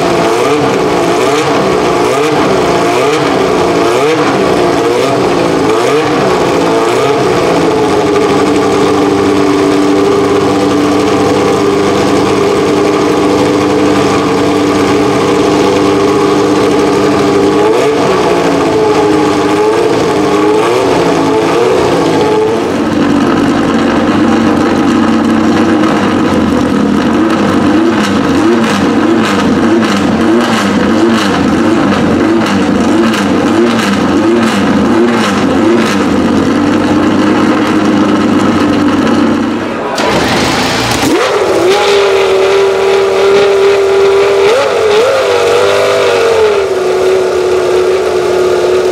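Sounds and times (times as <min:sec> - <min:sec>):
racing engine idling and revving: 0:00.0 - 0:48.9.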